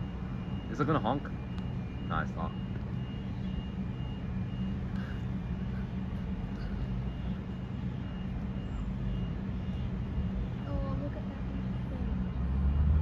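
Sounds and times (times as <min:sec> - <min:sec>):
train running with low hum: 0:00.0 - 0:13.0.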